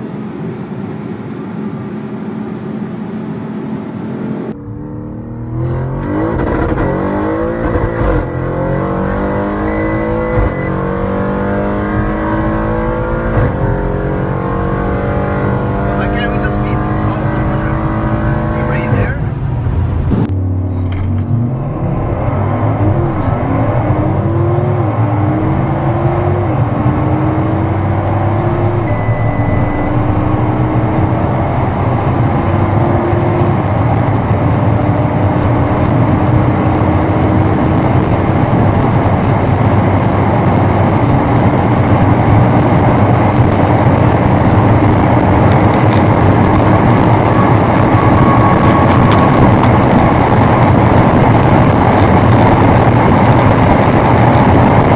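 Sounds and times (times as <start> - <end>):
sports car accelerating with upshifts: 0.0 - 54.9
wind and road noise: 0.0 - 54.9.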